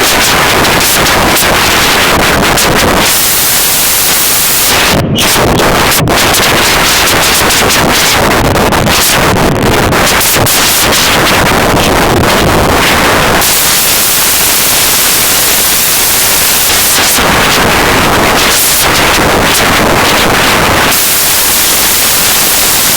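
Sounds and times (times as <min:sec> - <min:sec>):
harsh digital glitch static: 0:00.0 - 0:22.9.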